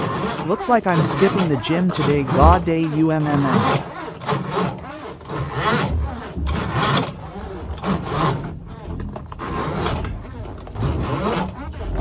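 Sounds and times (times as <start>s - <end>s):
steel cable rasping: 0.0s - 12.0s.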